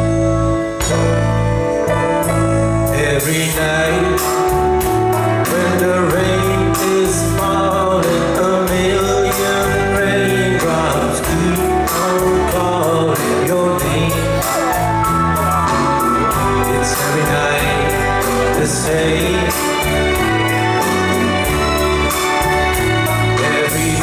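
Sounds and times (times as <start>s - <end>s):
rock band playing: 0.0s - 24.0s
man singing: 2.8s - 24.0s.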